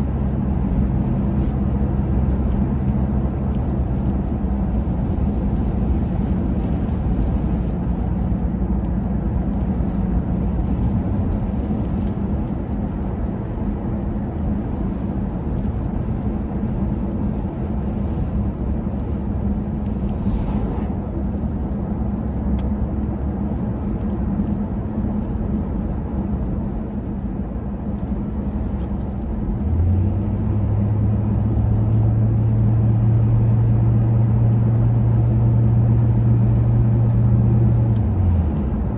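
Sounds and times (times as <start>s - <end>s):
low engine hum: 0.0s - 38.9s
traffic rumble: 0.0s - 38.9s.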